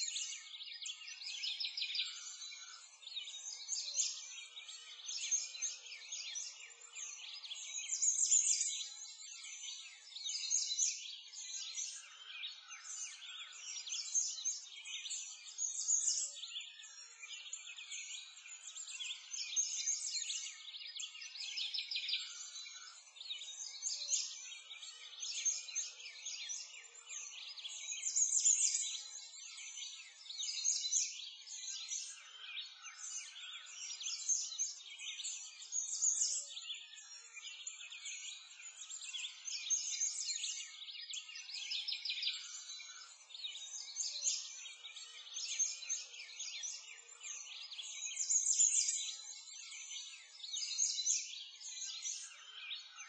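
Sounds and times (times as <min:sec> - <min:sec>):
songbirds chirping and twittering: 0:00.0 - 0:53.0.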